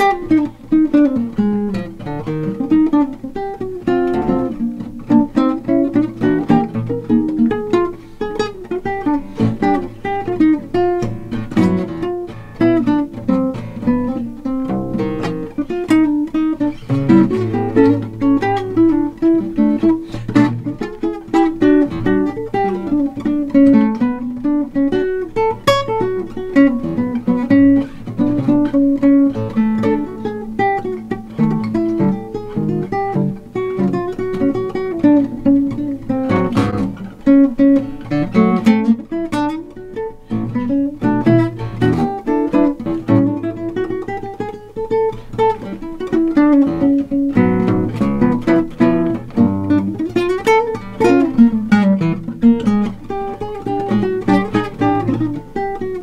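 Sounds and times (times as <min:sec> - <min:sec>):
fingerstyle nylon-string guitar: 0:00.0 - 0:56.0.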